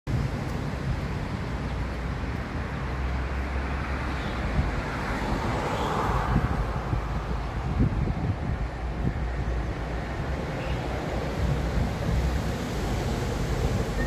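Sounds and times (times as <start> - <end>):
road traffic rumble: 0.1 - 14.0.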